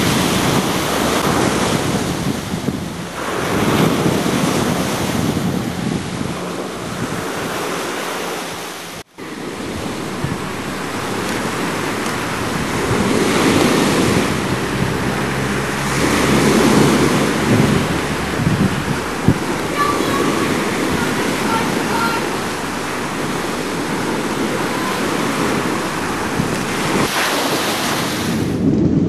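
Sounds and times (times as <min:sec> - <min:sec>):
waves washing: 0:00.0 - 0:29.0
wind buffeting microphone: 0:00.0 - 0:29.0.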